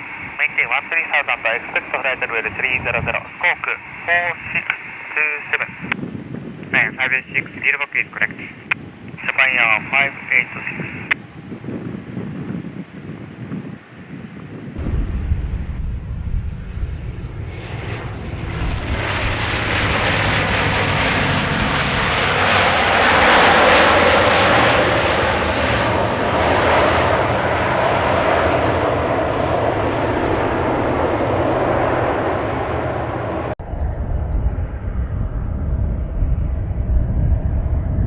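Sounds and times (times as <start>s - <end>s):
airliner engines rushing past: 0.0s - 38.0s
low wind rumble on microphone: 0.0s - 38.0s.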